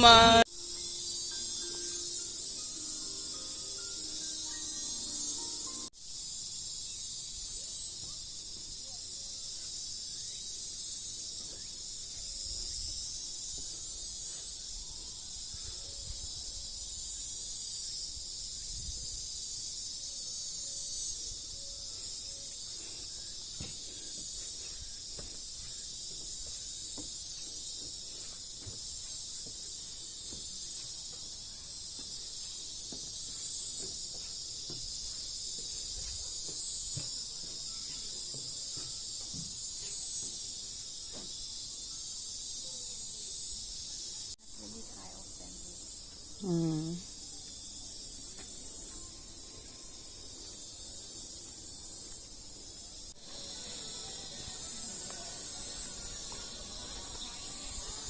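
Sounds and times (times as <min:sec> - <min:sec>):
insect chorus buzzing: 0:00.0 - 0:58.0.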